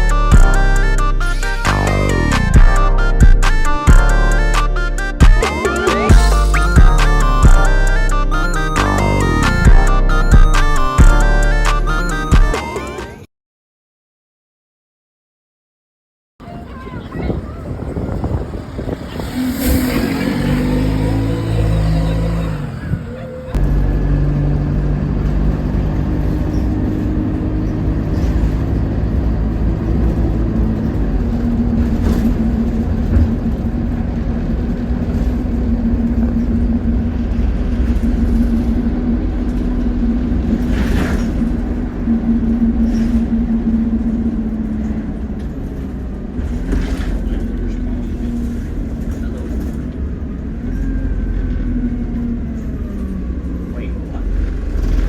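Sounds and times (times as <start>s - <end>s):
bus engine running: 0.0s - 13.2s, 16.4s - 55.0s.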